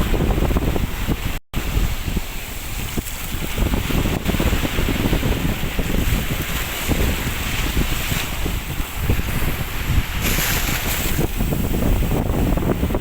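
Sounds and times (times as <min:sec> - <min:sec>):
sea waves washing onto beach: 0:00.0 - 0:13.0
wind buffeting microphone: 0:00.0 - 0:13.0
hiss of surf: 0:00.9 - 0:13.0.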